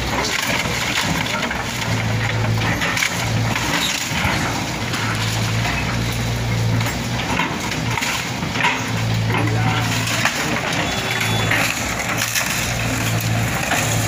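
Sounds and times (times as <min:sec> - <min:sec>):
debris crunching and cracking: 0:00.0 - 0:14.0
diesel engine droning under load: 0:00.0 - 0:14.0.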